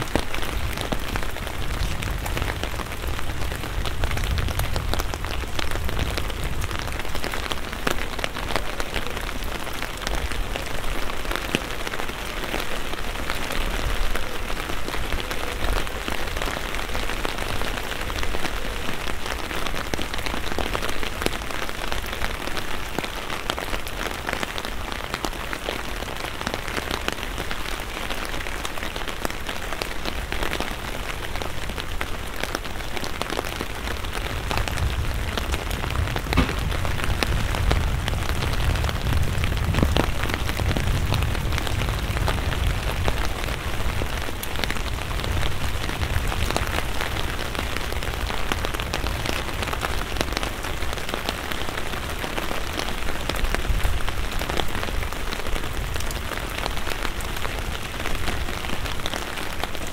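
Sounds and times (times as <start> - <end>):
rain hissing on wet street: 0.0 - 59.9
raindrops tapping on umbrella: 0.0 - 59.9.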